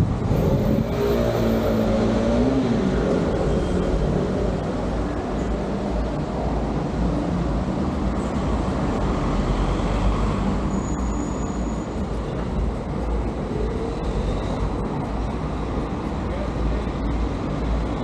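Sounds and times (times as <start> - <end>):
vehicle and road noise rumble: 0.0 - 18.0.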